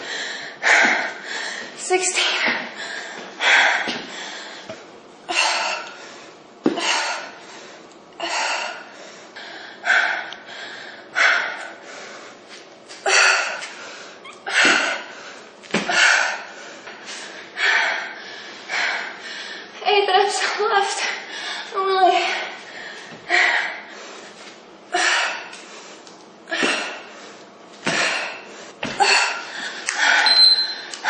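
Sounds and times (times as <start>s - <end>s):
woman breathing hard: 0.0s - 19.8s, 21.0s - 31.0s.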